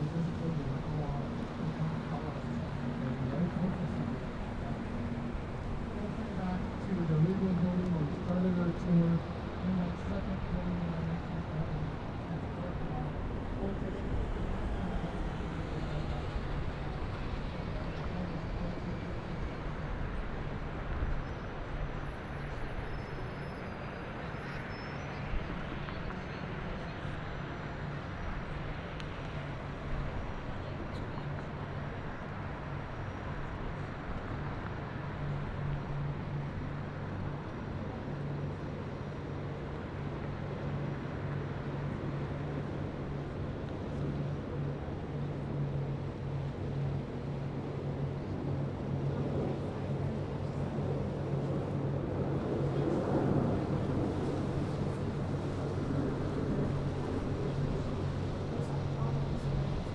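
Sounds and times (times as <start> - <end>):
low boat engine drone: 0.0 - 59.9.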